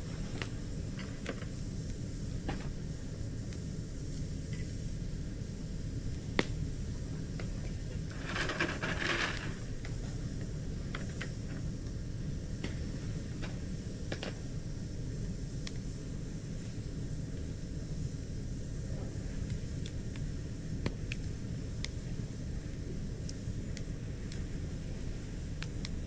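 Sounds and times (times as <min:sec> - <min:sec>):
fire hiss: 0:00.0 - 0:26.0
low fire rumble: 0:00.0 - 0:26.0
campfire crackling and popping: 0:00.2 - 0:17.8, 0:18.4 - 0:26.0.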